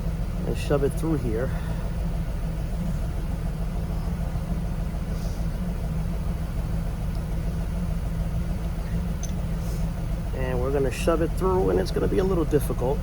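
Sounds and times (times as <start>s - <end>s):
vehicle engine idling hum: 0.0s - 13.0s.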